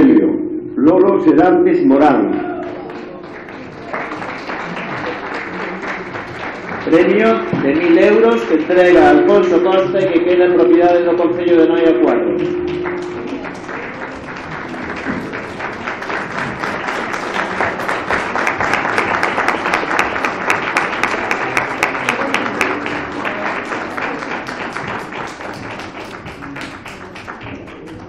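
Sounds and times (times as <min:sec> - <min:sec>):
audience applauding: 0:02.6 - 0:10.2, 0:12.4 - 0:28.0.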